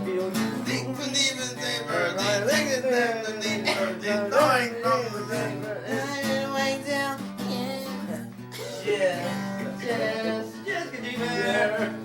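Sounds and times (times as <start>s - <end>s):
acoustic guitar strumming: 0.0s - 12.0s
person singing wordless melody: 0.0s - 12.0s.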